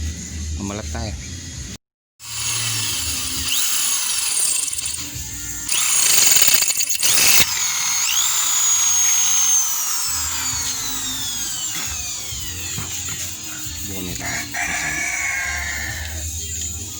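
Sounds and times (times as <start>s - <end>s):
power tool cutting steel: 2.2s - 16.9s.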